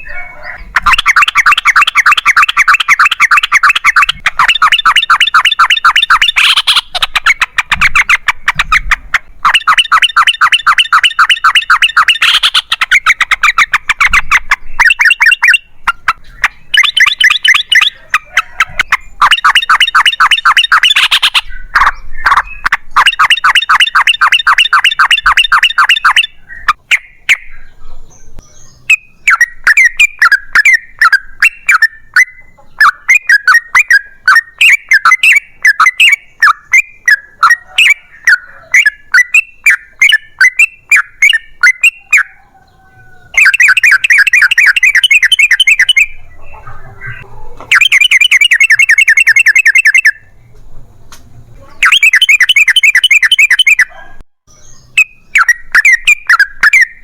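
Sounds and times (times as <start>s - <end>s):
bulbul singing rapid chattering song: 0.0s - 57.0s.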